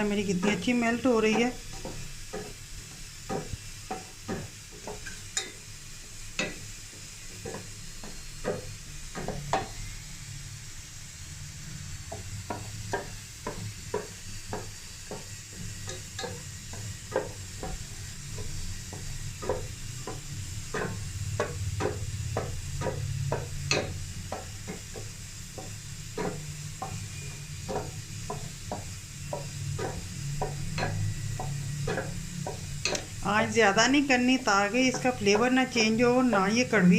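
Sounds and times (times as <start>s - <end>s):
spoon scraping a pan: 0.0s - 10.2s, 11.6s - 36.9s.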